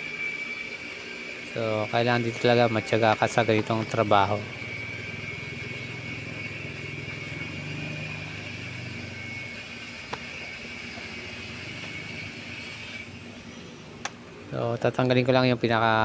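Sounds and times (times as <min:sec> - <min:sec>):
low mechanical hum: 0:00.0 - 0:16.0
thin high whine: 0:00.0 - 0:16.0.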